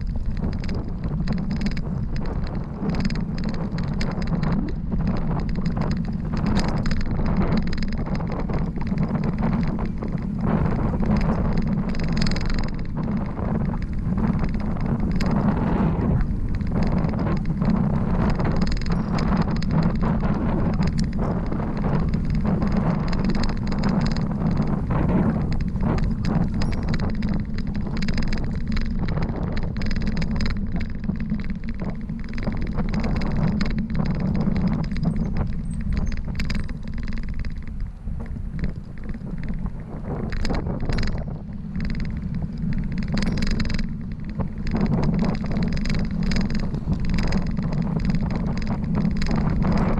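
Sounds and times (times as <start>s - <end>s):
bicycle clicks and rattles: 0.0s - 49.9s
wind rushing over microphone: 0.0s - 49.9s.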